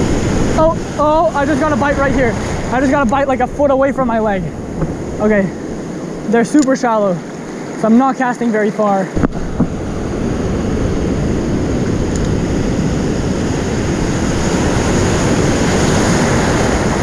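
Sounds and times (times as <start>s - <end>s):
wind on microphone: 0.0s - 6.4s, 9.1s - 17.0s
ocean surf breaking: 0.0s - 17.0s.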